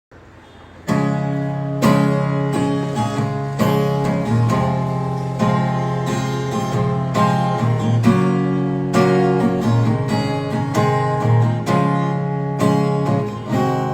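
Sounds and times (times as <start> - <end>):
acoustic guitar strumming chords: 0.2 - 13.9.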